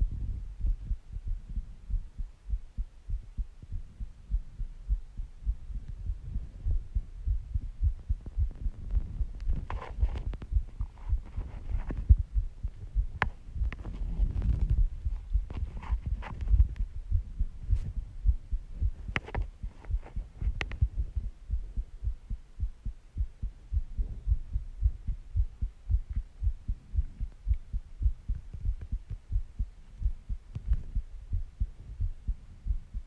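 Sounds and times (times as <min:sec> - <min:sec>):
heartbeat thumps: 0:00.0 - 0:33.0
soft breaths: 0:00.0 - 0:33.0.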